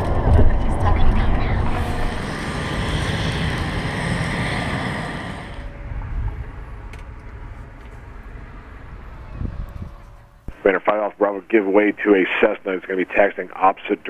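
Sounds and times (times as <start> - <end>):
light aircraft engine rumbling: 0.0 - 14.0.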